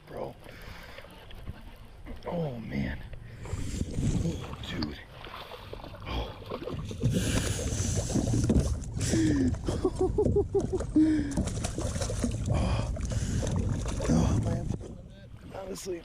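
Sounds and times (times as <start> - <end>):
water sloshing around a kayak: 0.0 - 16.0.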